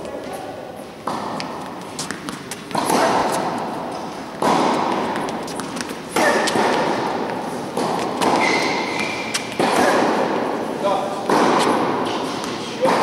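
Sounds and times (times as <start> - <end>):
tennis balls struck and bouncing: 0.0 - 13.0.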